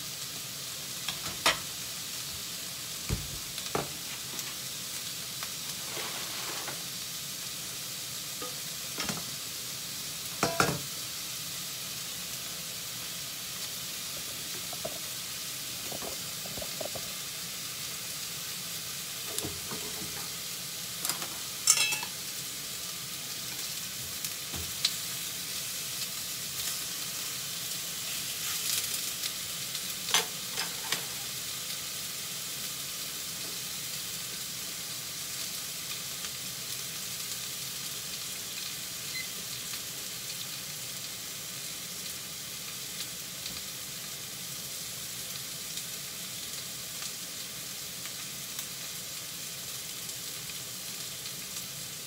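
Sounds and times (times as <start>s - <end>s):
meat sizzling in a frying pan: 0.0s - 52.0s.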